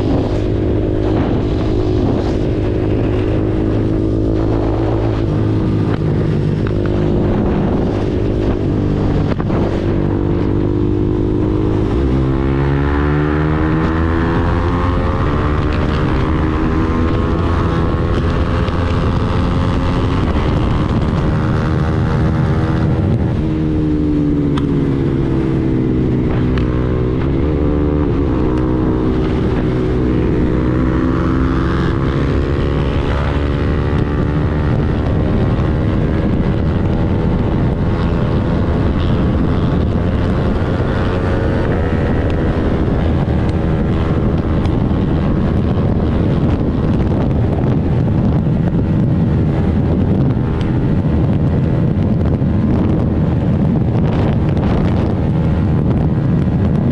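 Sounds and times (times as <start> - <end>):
motorcycle engine running hard: 0.0 - 56.9
wind buffeting microphone: 0.0 - 56.9.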